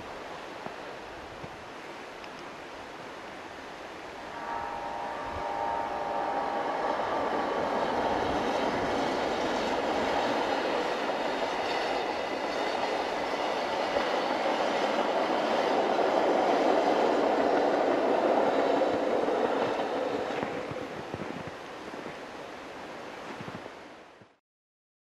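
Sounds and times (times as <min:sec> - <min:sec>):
passenger train running past: 0:03.1 - 0:24.1.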